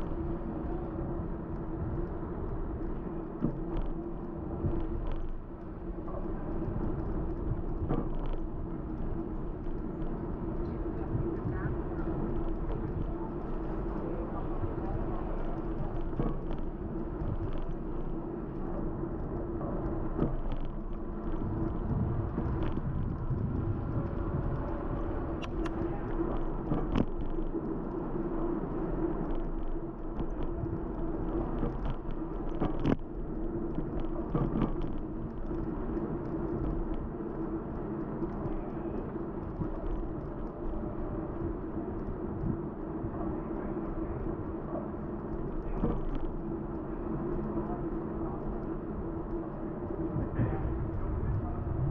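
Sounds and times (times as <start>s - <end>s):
constant low hum: 0.0s - 51.9s
wind and road noise: 0.0s - 51.9s.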